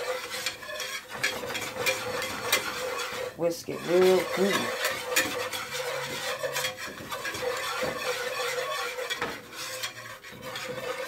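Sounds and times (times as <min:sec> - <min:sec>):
whisk scraping in a pan: 0:00.0 - 0:11.0.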